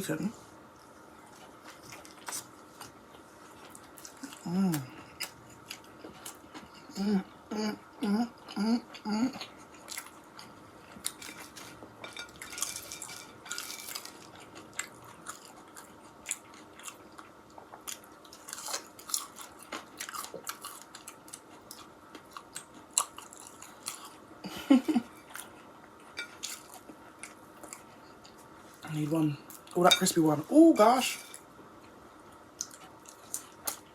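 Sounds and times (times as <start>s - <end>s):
close chewing and crunching: 1.2s - 7.4s, 8.0s - 33.9s.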